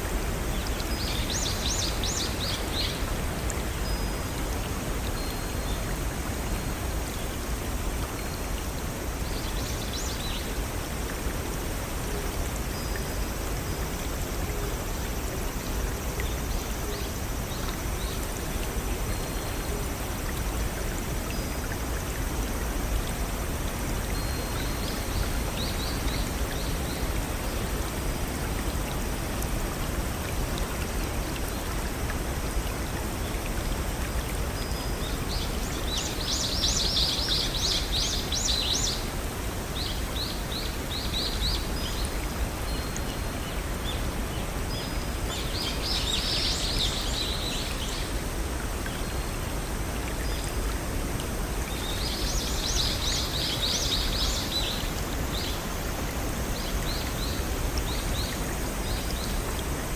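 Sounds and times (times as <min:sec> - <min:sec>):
brook and waterfall running: 0:00.0 - 0:59.9.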